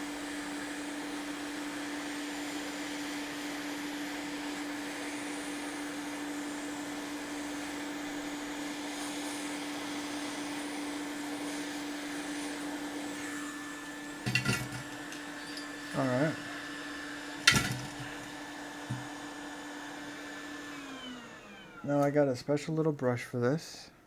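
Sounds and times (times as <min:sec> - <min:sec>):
hot air station blowing: 0:00.0 - 0:22.1.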